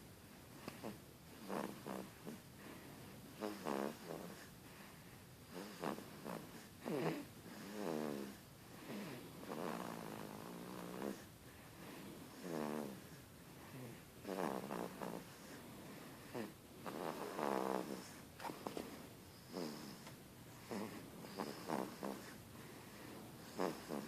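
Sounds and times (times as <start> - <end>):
pitched buzzing snores: 0.6 - 2.8, 3.4 - 4.5, 5.5 - 18.7, 19.3 - 24.0.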